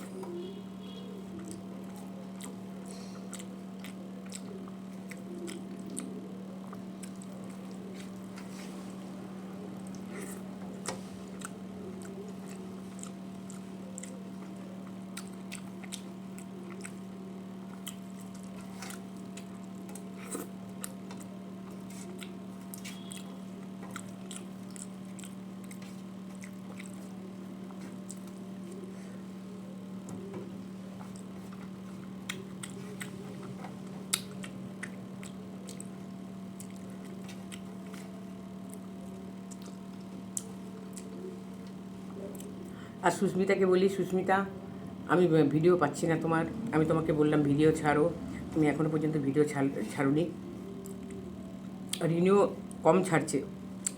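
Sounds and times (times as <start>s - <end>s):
steady low hum: 0.0s - 53.9s
person chewing food: 0.1s - 42.9s, 50.6s - 52.0s.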